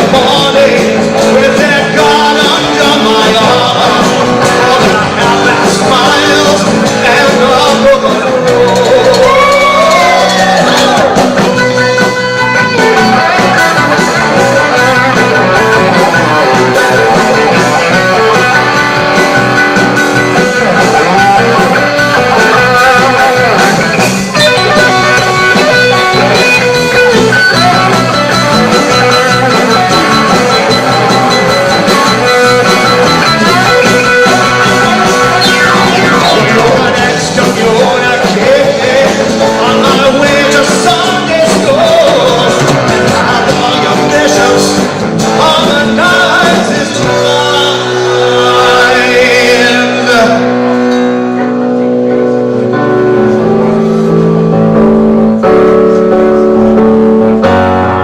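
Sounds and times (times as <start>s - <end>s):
electric guitar lead notes: 0.0s - 58.0s
live rock band playing: 0.0s - 58.0s.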